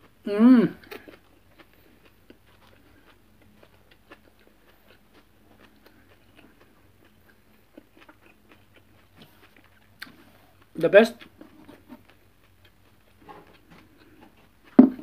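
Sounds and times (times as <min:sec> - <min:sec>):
chewing leafy greens: 0:00.0 - 0:15.0.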